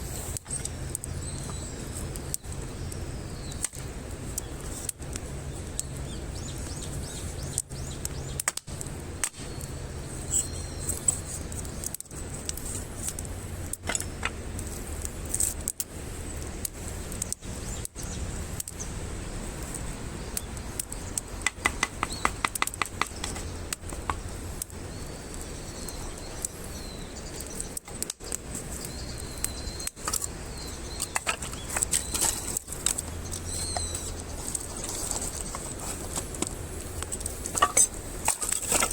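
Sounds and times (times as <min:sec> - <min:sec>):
birds calling: 0:00.0 - 0:38.9
campfire crackling and popping: 0:00.0 - 0:38.9.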